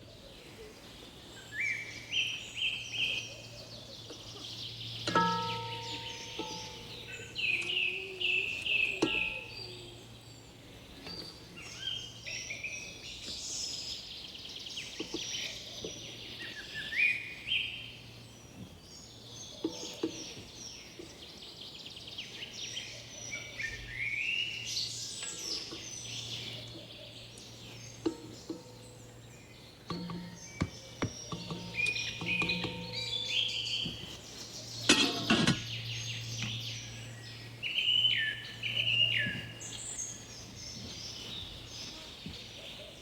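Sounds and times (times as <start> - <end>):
birds chirping and singing: 0.0 - 43.0.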